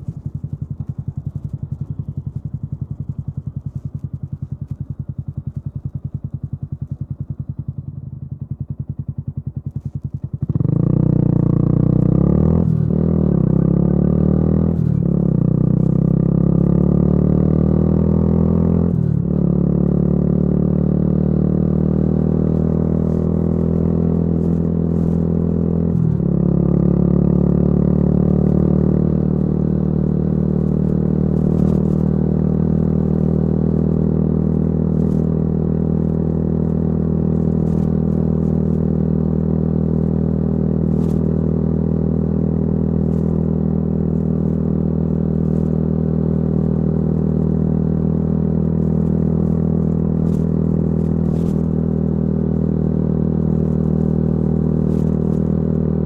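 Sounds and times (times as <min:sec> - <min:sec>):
motorcycle engine idling: 0:00.0 - 0:17.0, 0:21.6 - 0:56.0
motorcycle accelerating through gears: 0:00.0 - 0:56.0.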